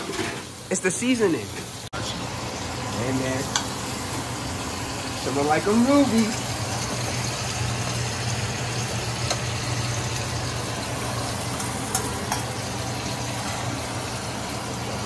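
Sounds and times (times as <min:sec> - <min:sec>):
food sizzling in hot fat: 0:00.0 - 0:15.0.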